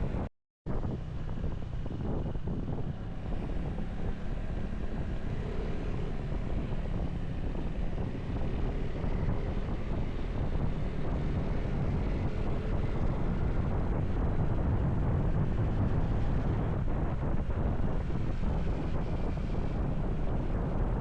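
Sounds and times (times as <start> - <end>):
motorcycle road and engine rumble: 0.0 - 21.0
wind buffeting microphone: 0.0 - 21.0.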